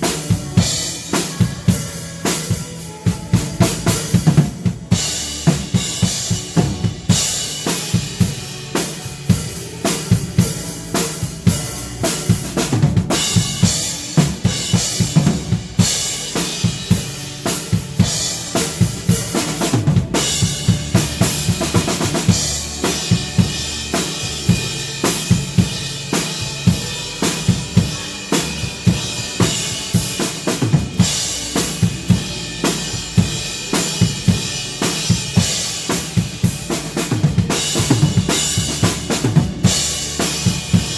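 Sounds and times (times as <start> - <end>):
drum kit playing a steady beat: 0.0 - 40.9
praise song music: 0.0 - 40.9.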